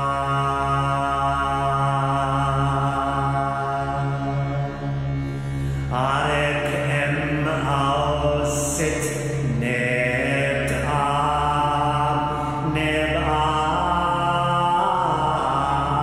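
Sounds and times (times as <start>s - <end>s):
man chanting: 0.0s - 4.8s, 5.8s - 16.0s
steady low drone: 0.0s - 16.0s.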